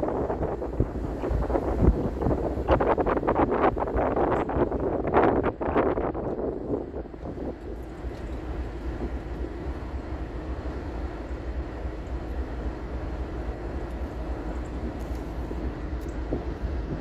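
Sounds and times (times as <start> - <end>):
car road and wind rumble: 0.0 - 17.0
faint steady hum: 0.0 - 17.0.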